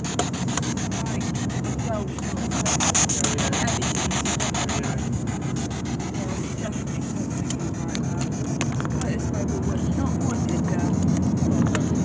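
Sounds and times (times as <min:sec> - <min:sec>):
camera rubbing against clothing: 0:00.0 - 0:12.0
car interior rumble: 0:00.0 - 0:12.0
fast even ticking: 0:00.0 - 0:12.0.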